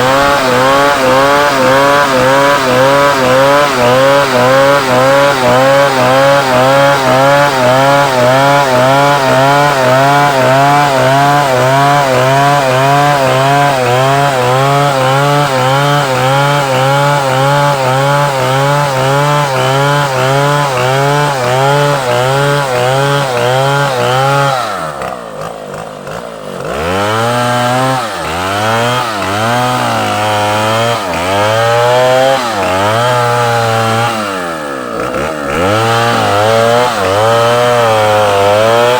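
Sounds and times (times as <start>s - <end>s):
chainsaw cutting timber: 0.0s - 38.9s.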